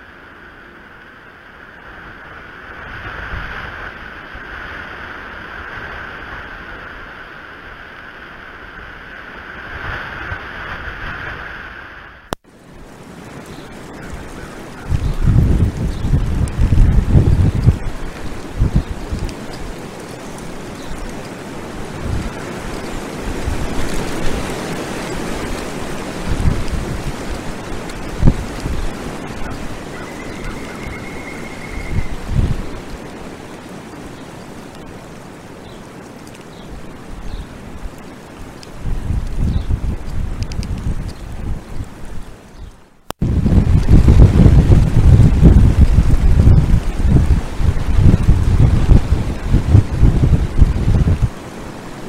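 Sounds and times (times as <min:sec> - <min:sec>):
wind gusting on microphone: 0:00.0 - 0:52.0.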